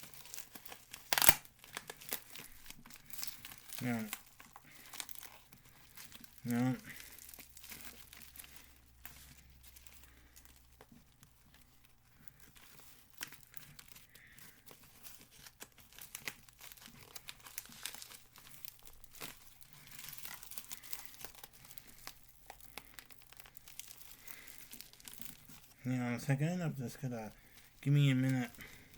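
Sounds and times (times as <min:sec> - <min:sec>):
packaging crinkling and tearing: 0:00.0 - 0:28.9.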